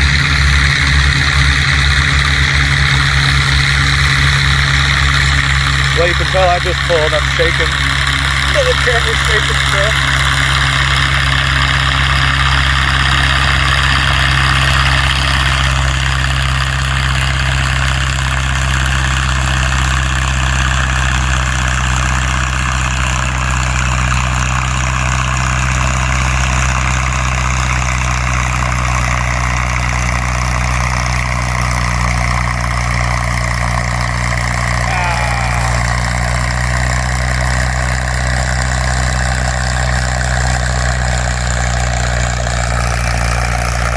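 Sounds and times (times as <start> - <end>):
tractor engine idling: 0.0 - 43.9.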